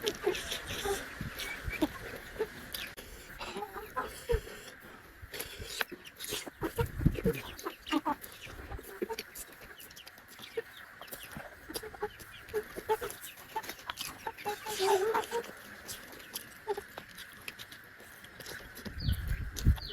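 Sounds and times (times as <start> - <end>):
chewing and lip smacking: 0.0 - 19.9.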